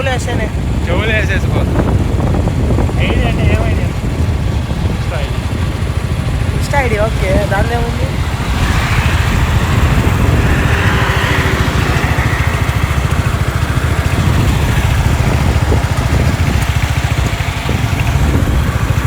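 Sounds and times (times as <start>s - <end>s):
motorcycle engine running: 0.0s - 19.0s
rushing wind: 0.0s - 19.0s.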